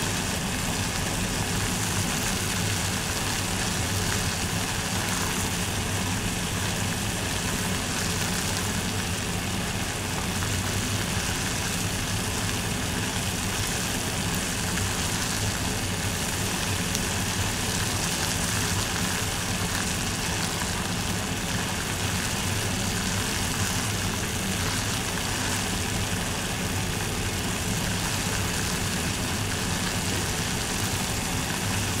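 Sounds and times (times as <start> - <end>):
water boiling in a pot: 0.0 - 32.0.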